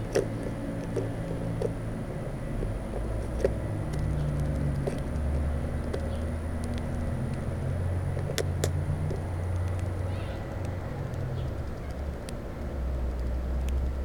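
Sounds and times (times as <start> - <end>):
birds pecking at seed: 0.0 - 14.0
low engine-like rumble: 0.0 - 14.0.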